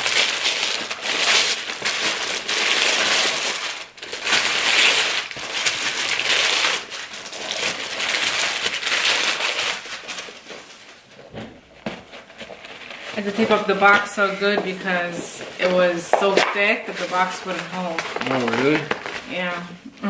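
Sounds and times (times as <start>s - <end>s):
wrapping paper tearing and rustling: 0.0s - 19.8s.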